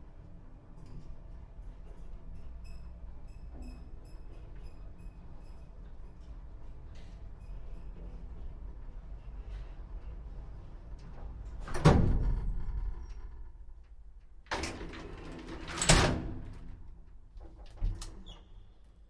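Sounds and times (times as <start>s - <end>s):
elevator doors sliding and clunking: 0.8s - 18.8s.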